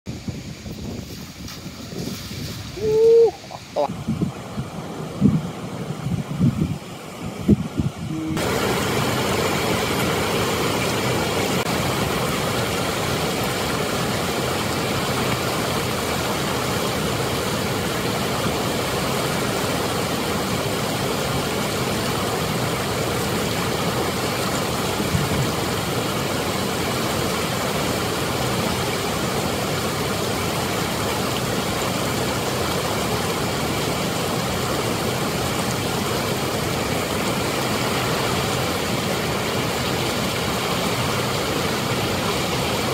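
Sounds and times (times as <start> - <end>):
water rushing over rocks: 0.1 - 42.9.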